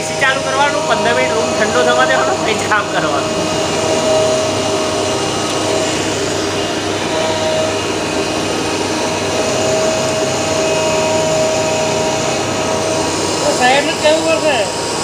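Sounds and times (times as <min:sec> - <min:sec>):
cutting machine blower rush: 0:00.0 - 0:15.0
held whining tone: 0:00.0 - 0:15.0.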